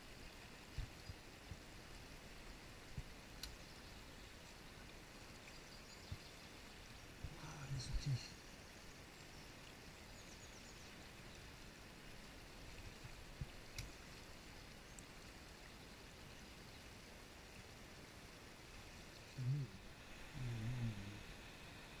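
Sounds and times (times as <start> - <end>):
stream rushing over rocks: 0.0 - 5.7, 6.3 - 22.0.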